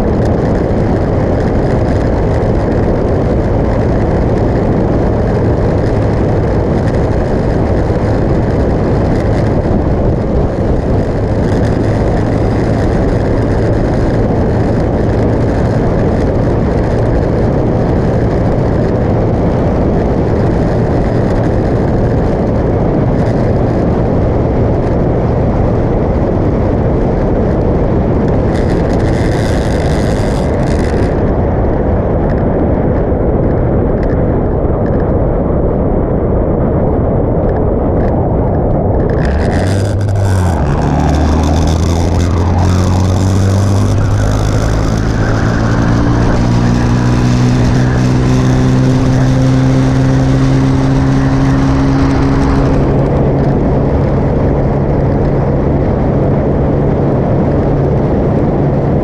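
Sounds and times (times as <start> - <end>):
motorcycle engine drone: 0.0 - 59.0
wind rush on microphone: 0.0 - 59.0.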